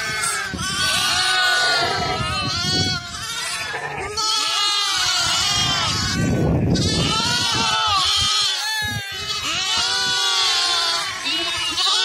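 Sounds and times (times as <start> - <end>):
lambs and goat kids bleating: 0.0 - 12.0.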